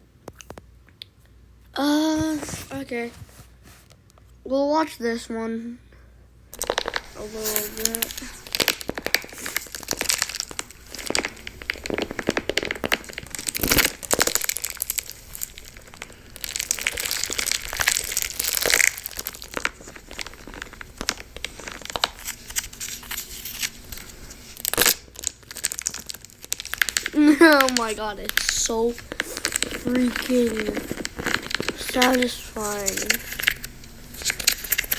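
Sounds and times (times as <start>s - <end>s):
wax crunching and crackling: 1.7s - 4.3s, 6.5s - 34.9s.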